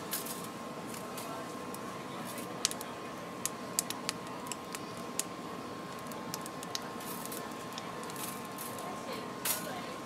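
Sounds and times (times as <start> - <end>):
squid crackling on charcoal grill: 0.0 - 8.9
steady background hum: 0.0 - 10.0.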